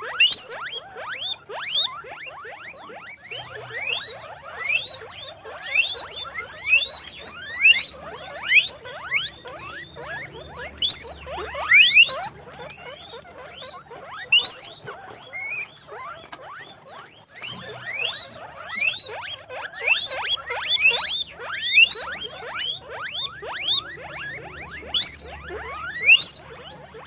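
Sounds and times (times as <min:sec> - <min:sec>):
guinea pigs squealing: 0:00.0 - 0:27.0.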